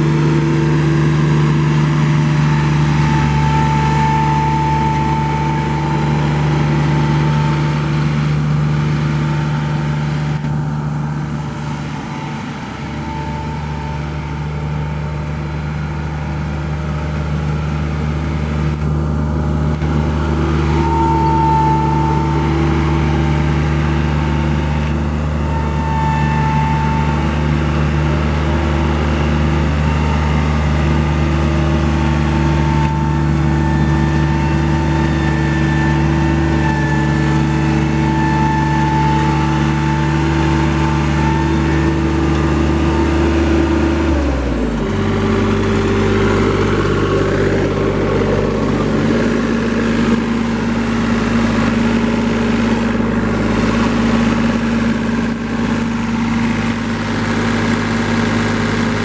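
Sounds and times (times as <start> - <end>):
diesel mower engine running: 0.0 - 59.0.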